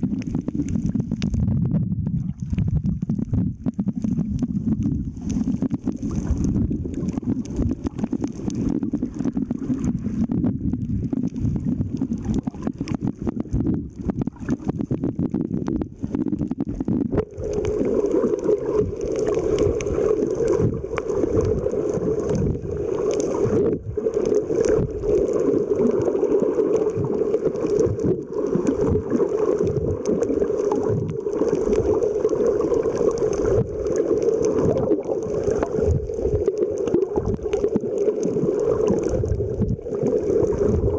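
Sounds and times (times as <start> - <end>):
underwater rushing and gurgling: 0.0 - 40.9.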